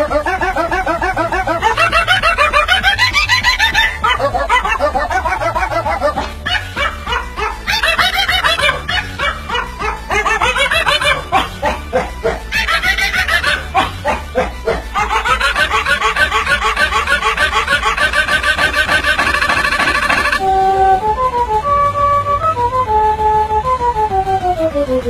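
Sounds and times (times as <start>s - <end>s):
pitch-shifted dog barks melody: 0.0s - 20.4s
steady beat and bass: 0.0s - 24.6s.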